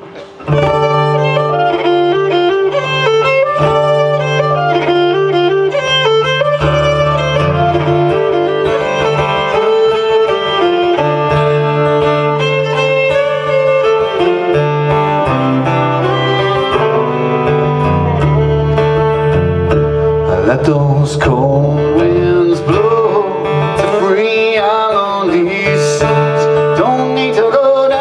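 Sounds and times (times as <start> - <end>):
fiddle playing folk tune: 0.0 - 28.0.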